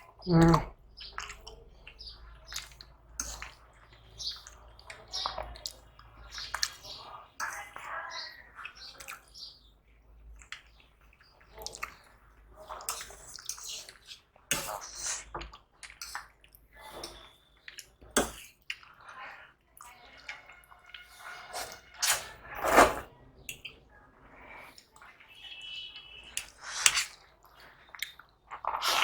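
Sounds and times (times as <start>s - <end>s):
wet chewing and slurping: 0.0s - 7.8s, 10.3s - 29.0s.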